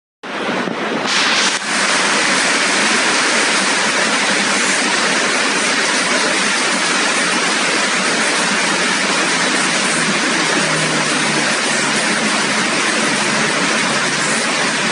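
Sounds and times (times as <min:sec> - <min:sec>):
rain falling: 0:00.3 - 0:14.9.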